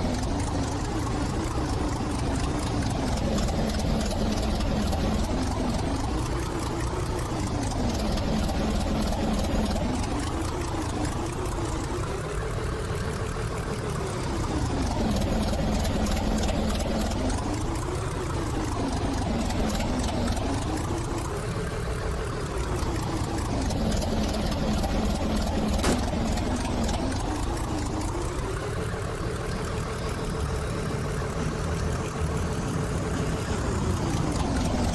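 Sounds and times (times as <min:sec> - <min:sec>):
train running rumble: 0:00.0 - 0:34.9.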